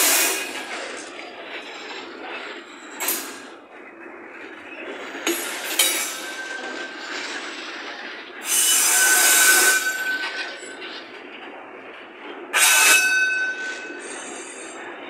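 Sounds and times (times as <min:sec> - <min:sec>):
metallic wheel screech: 0:00.0 - 0:03.6, 0:04.6 - 0:11.0, 0:12.5 - 0:15.0.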